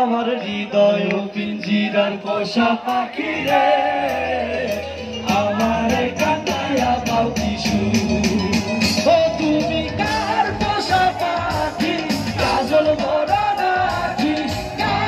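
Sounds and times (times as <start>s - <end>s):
person singing: 0.0s - 15.0s
bass and drums: 2.5s - 15.0s.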